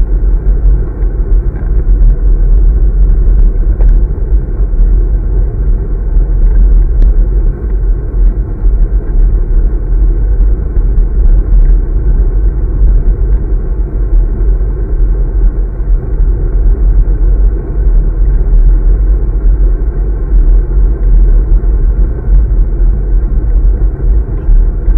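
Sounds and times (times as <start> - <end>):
road rumble: 0.0 - 24.9
wind buffeting: 0.0 - 24.9.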